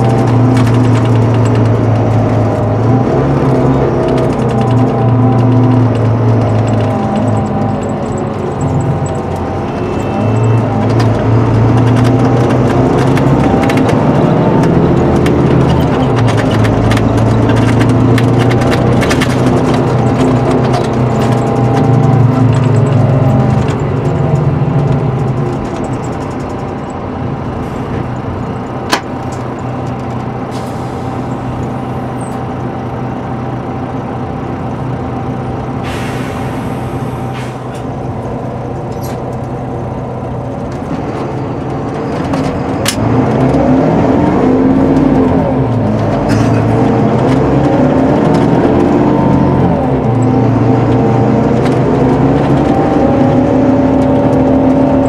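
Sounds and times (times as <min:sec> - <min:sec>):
coach diesel engine from inside: 0:00.0 - 0:55.0.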